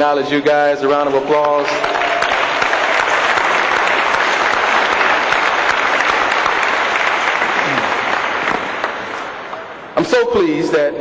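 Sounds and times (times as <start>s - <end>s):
audience applauding: 1.0s - 10.0s.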